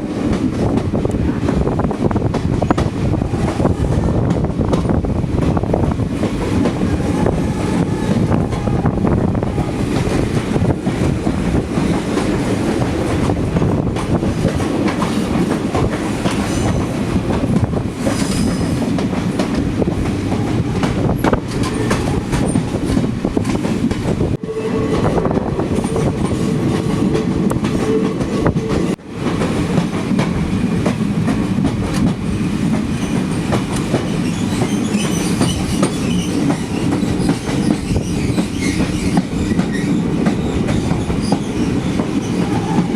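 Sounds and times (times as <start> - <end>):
train rumble: 0.0 - 42.9
wheels clacking over rail joints: 0.0 - 42.9.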